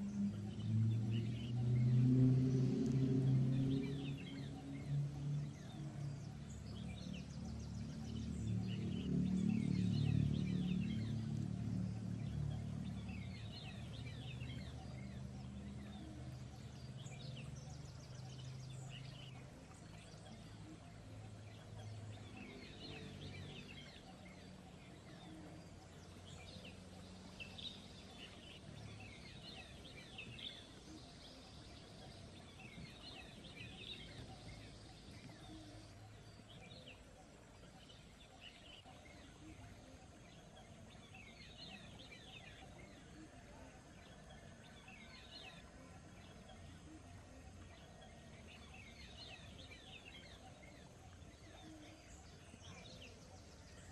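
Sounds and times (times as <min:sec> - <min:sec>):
birds chirping: 0:00.0 - 0:53.9
faint low drone: 0:00.0 - 0:53.9.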